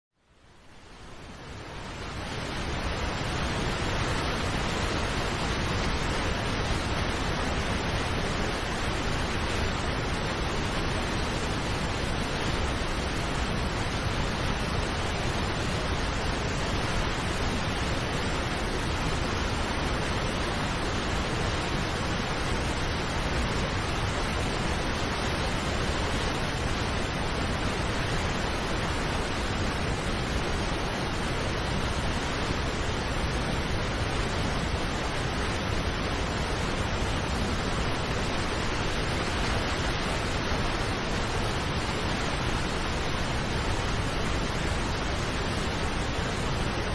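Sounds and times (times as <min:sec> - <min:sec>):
waterfall rushing over rocks: 0:00.3 - 0:46.9.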